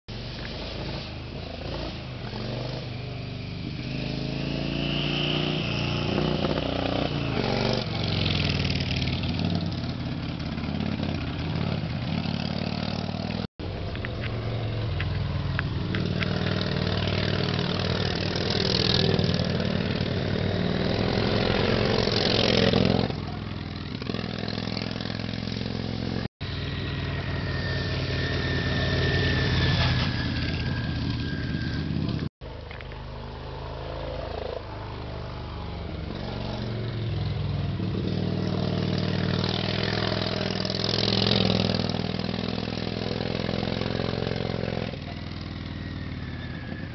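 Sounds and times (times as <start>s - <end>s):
motorcycle engine revving: 0.2s - 32.3s, 32.9s - 46.9s.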